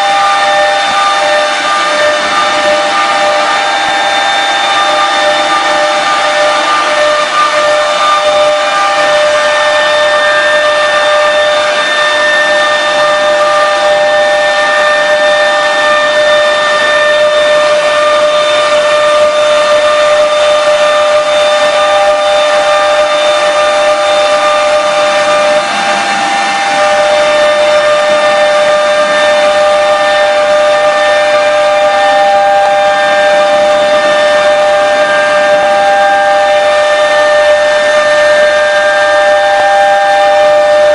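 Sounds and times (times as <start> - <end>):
cutting hiss: 0.0 - 40.9
router spindle whine: 0.0 - 40.9.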